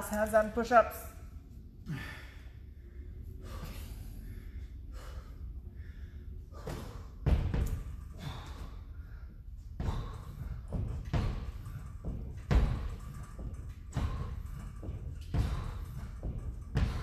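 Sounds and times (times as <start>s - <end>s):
man breathing hard: 1.8s - 17.0s.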